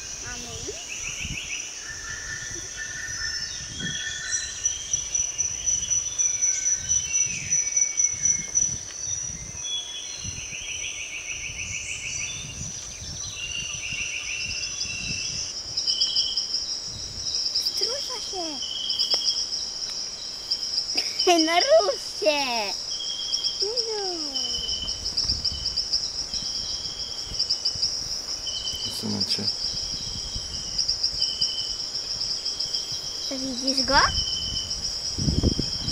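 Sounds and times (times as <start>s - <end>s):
insects buzzing and chirping: 0.0s - 35.9s.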